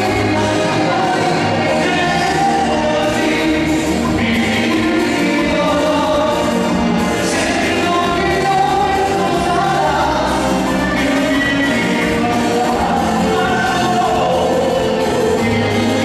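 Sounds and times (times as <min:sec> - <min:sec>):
live band music: 0:00.0 - 0:16.0
several voices singing: 0:00.0 - 0:16.0.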